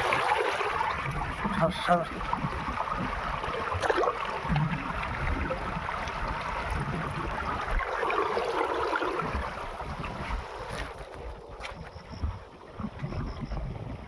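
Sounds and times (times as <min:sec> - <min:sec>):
water splashing and sloshing: 0:00.0 - 0:14.0
wind rumbling on microphone: 0:00.0 - 0:14.0.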